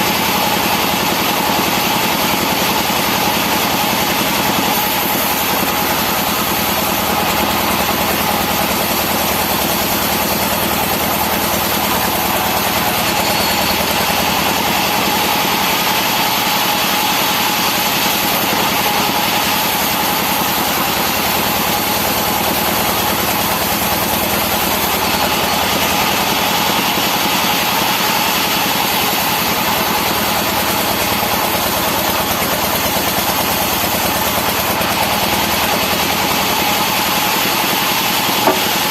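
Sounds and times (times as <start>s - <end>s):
saw machinery humming: 0.0s - 38.9s.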